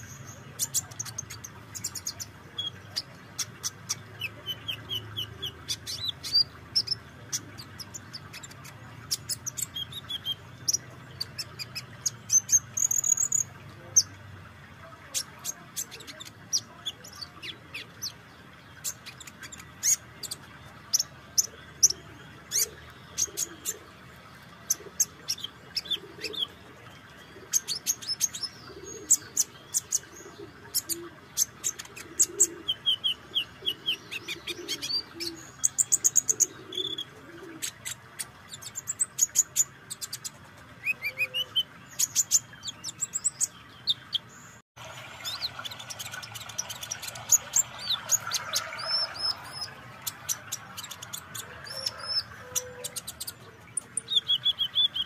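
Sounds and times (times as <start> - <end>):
bird singing high chirps and trills: 0.0 - 14.3, 15.0 - 55.0.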